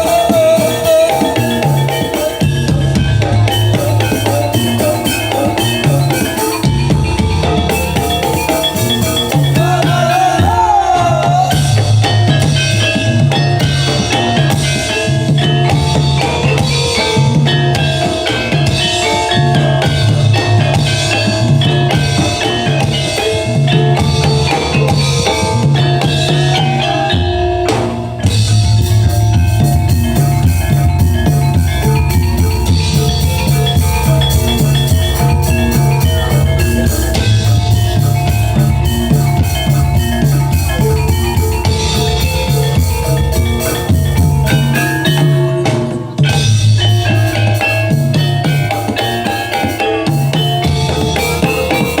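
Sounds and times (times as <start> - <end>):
drums and percussion beat: 0.0 - 52.0
gamelan ensemble playing: 0.0 - 52.0
held melodic notes: 0.0 - 52.0.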